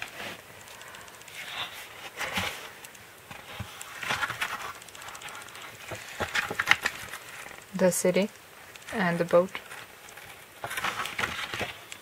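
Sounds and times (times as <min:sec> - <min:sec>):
paper and card rustling: 0:00.0 - 0:07.7, 0:08.8 - 0:12.0.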